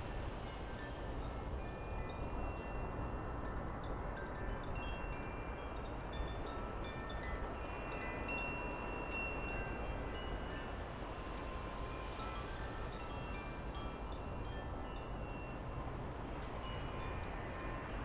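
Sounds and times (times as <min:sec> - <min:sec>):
wind chimes tinkling: 0:00.0 - 0:18.0.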